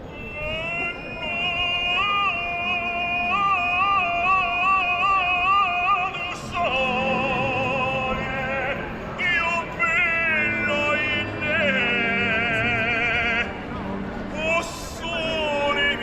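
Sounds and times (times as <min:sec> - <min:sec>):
person singing operatic song: 0:00.0 - 0:13.7, 0:14.3 - 0:16.0.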